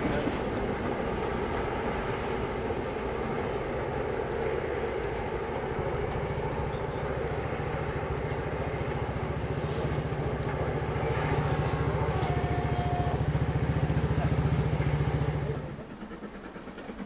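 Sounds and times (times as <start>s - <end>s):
locomotive low beat: 0.0s - 17.0s.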